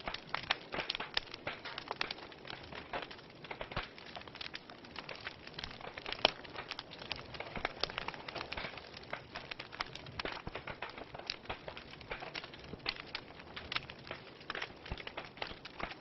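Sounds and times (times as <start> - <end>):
wood logs crackling in fireplace: 0.0 - 16.0.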